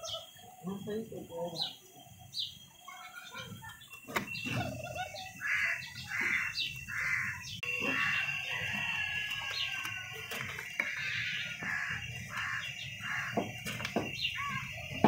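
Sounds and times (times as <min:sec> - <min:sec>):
loud hoarse bird calls: 0:00.0 - 0:15.0.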